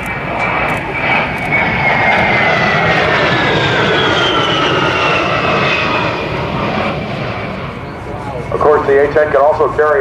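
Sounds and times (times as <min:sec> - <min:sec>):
jet engines roaring and whining: 0:00.0 - 0:10.0.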